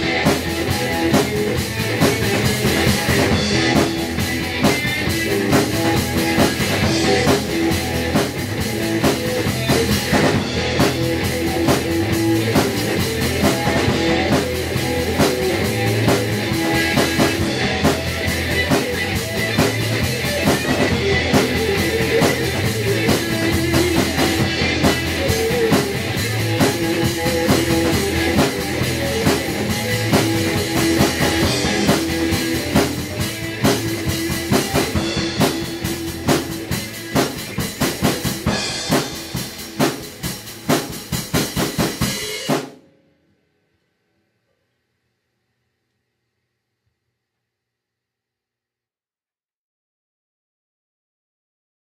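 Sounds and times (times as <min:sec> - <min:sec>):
electric guitar: 0:00.0 - 0:42.7
drum kit beat: 0:00.0 - 0:42.8.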